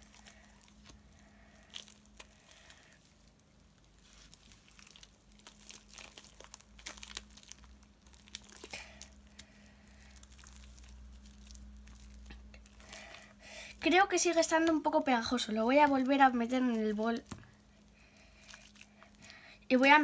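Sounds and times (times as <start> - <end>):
hands kneading sticky slime: 0.0 - 20.0.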